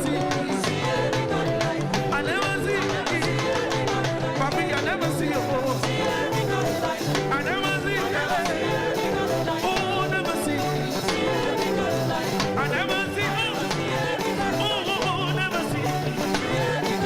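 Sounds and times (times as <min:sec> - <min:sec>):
live gospel band playing: 0:00.0 - 0:17.0
singing: 0:00.0 - 0:17.0.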